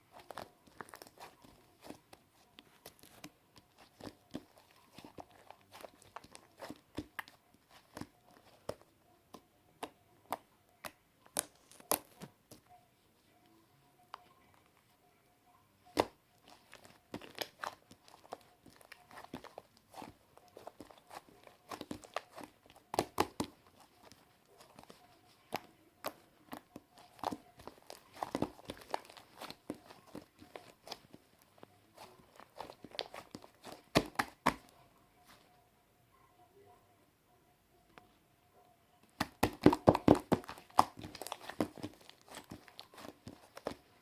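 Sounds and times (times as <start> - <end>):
slime kneaded by hand: 0.0 - 12.7, 15.9 - 35.4, 39.0 - 44.0.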